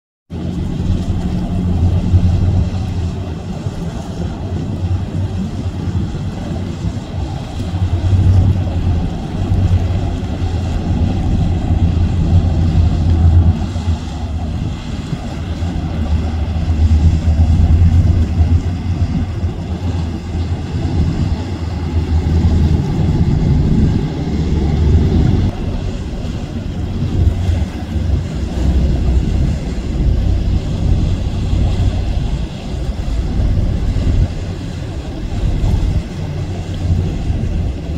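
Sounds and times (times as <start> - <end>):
boat engine drone: 0.3 - 37.9
bow wave and wake rushing: 0.3 - 37.9
wind buffeting microphone: 0.3 - 37.9.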